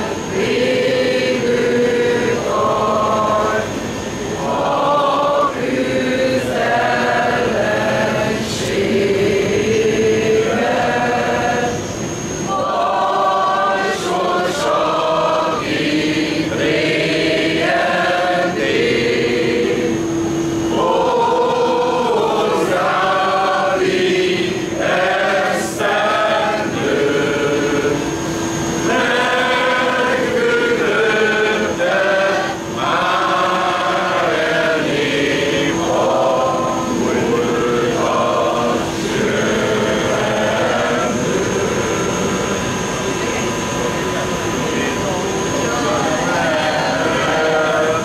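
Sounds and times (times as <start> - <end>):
group singing a hymn: 0.0 - 48.0.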